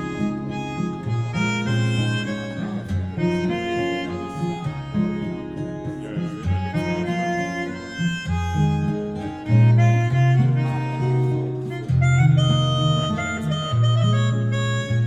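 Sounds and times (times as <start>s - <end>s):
instrumental music with guitar and strings: 0.0s - 15.0s.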